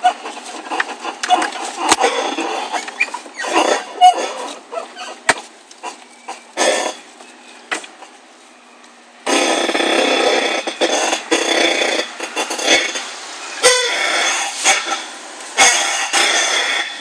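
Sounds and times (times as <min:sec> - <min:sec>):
suspension creaking and squeaking: 0:00.0 - 0:17.0.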